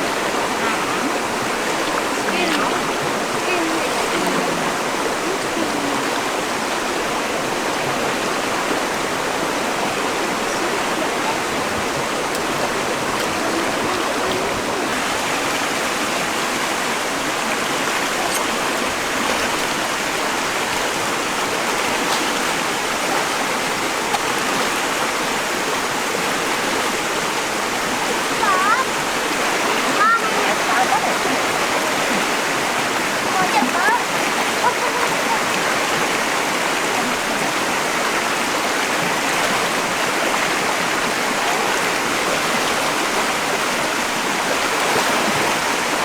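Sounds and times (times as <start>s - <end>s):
waterfall and stream rushing: 0.0s - 46.0s.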